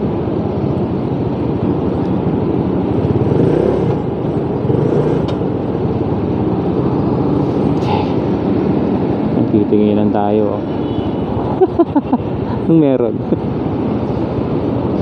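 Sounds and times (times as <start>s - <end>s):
other vehicle engines: 0.0s - 15.0s.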